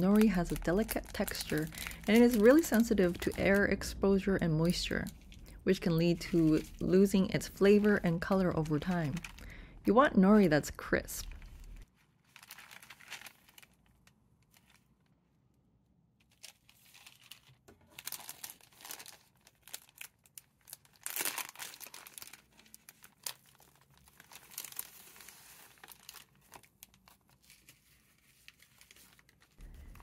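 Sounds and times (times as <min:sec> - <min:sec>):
plastic packaging crinkling: 0:00.0 - 0:04.0, 0:04.7 - 0:10.2, 0:10.8 - 0:15.2, 0:16.2 - 0:30.0.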